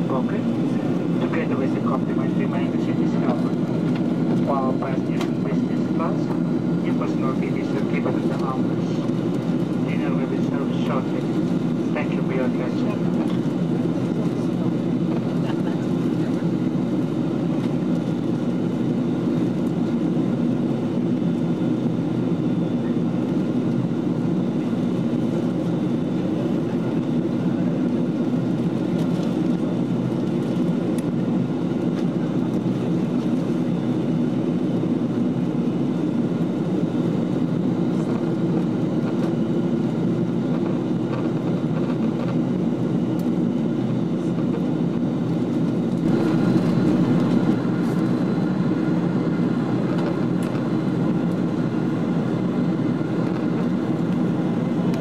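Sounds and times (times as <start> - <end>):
aircraft engine drone: 0.0 - 55.0.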